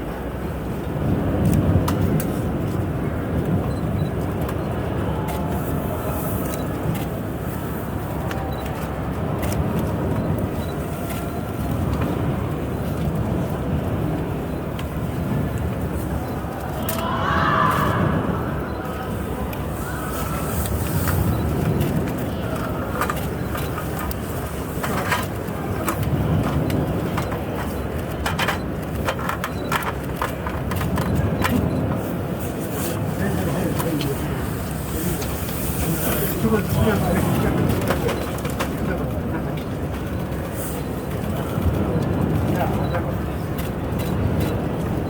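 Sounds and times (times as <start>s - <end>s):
crowd hubbub: 0.0s - 45.0s.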